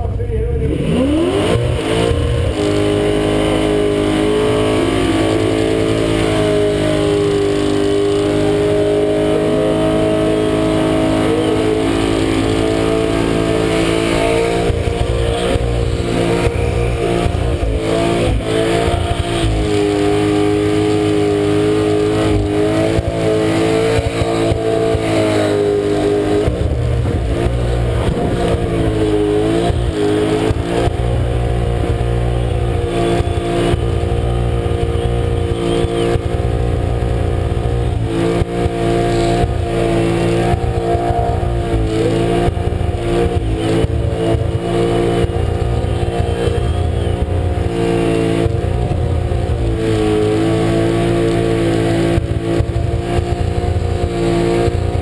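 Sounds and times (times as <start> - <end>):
engine at high revs: 0.6 - 55.0.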